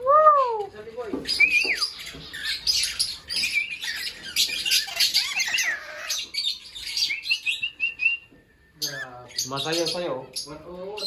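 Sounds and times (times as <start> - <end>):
small birds chirping and squawking: 0.6 - 11.0.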